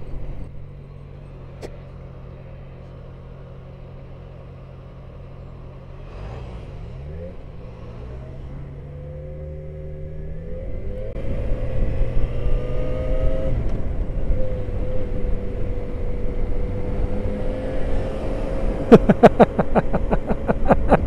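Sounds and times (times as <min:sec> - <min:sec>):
motorcycle engine running: 0:00.0 - 0:21.0
road rumble: 0:00.0 - 0:21.0
wind: 0:00.0 - 0:21.0.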